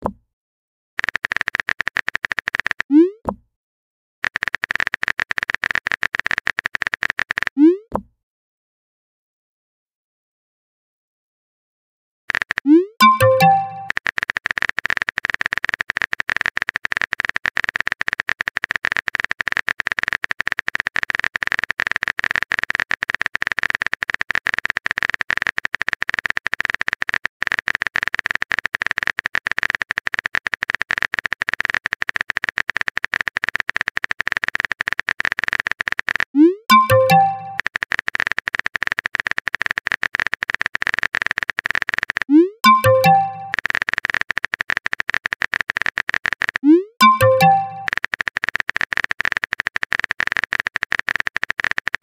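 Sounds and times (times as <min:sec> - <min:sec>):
keyboard typing clicks: 0:01.0 - 0:03.0, 0:04.2 - 0:07.5, 0:12.3 - 0:52.0.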